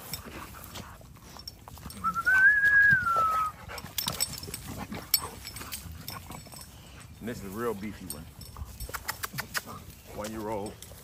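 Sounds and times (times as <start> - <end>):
chain collars clinking: 0.0 - 11.0.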